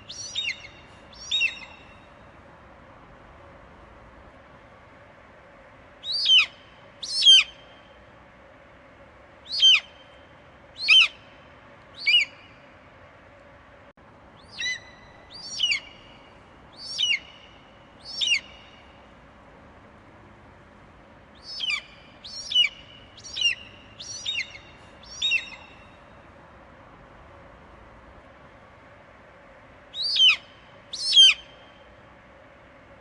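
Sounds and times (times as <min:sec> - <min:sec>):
faint background hiss: 0:00.0 - 0:33.0.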